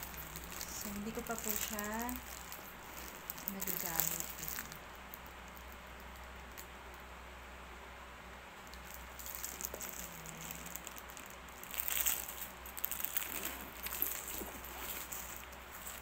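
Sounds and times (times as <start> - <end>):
plastic wrapping crinkling: 0.0 - 6.7, 8.6 - 16.0.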